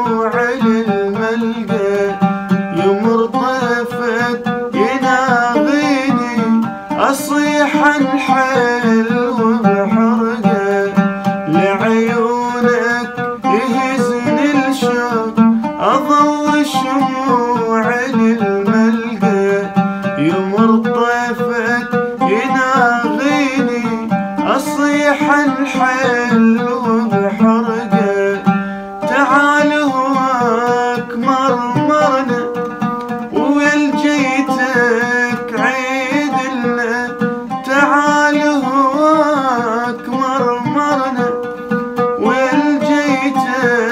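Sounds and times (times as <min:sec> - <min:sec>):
man singing bending notes: 0:00.0 - 0:43.9.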